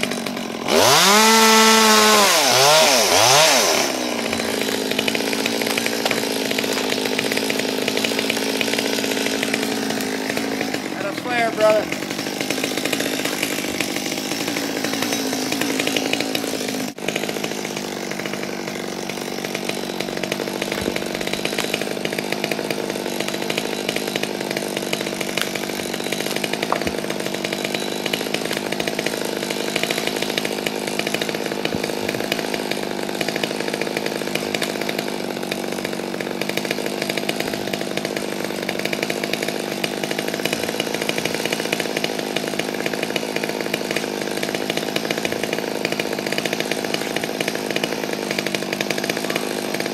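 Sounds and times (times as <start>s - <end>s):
chainsaw engine running: 0.0s - 49.9s.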